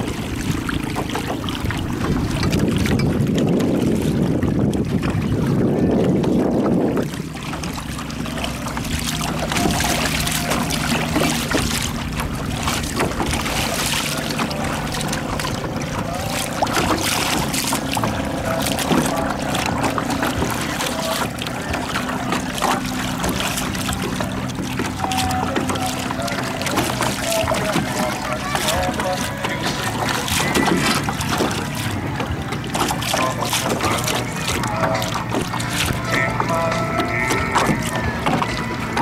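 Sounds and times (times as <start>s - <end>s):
water rushing along hull: 0.0s - 39.0s
wind buffeting microphone: 0.0s - 39.0s.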